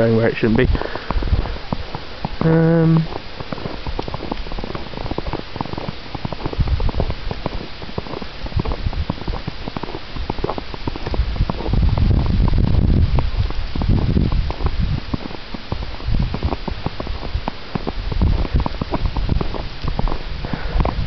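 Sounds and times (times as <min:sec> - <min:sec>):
footsteps crunching in snow: 0:00.0 - 0:21.0
microphone handling rumble: 0:00.0 - 0:21.0.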